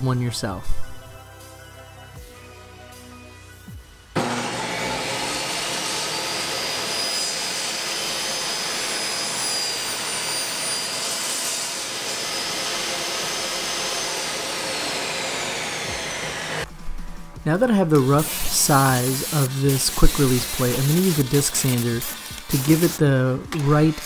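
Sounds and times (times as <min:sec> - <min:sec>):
table saw whine: 0:02.4 - 0:16.7, 0:18.0 - 0:24.0.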